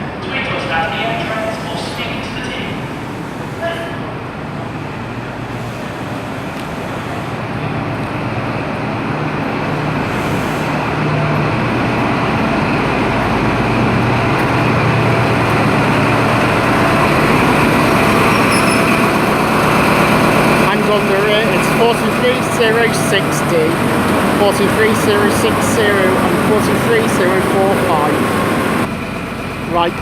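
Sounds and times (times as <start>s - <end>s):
diesel engine hum: 0.0s - 30.0s
train rumbling: 0.0s - 30.0s.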